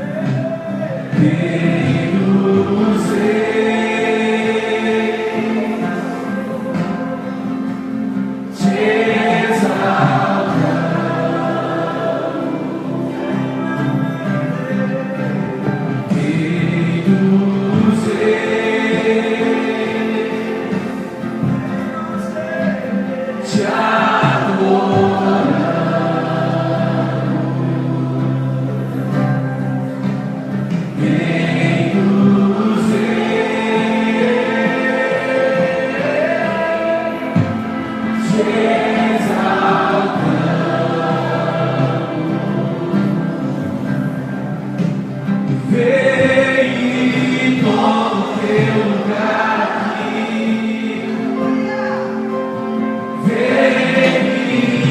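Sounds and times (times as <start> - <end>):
group singing a hymn: 0.0 - 54.9
instrumental accompaniment: 0.0 - 54.9.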